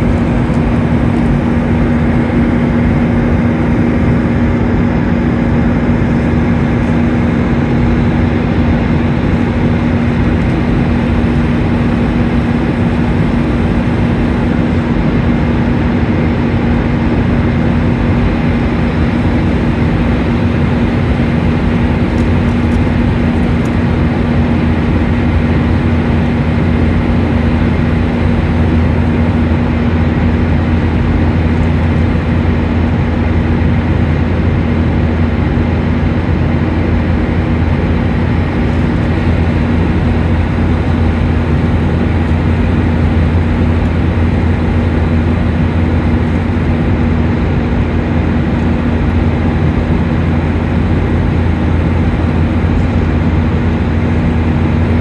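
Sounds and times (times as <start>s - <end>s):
deep drone: 0.0s - 55.0s
jet engines humming: 0.0s - 55.0s
rush of air in cabin: 0.0s - 55.0s.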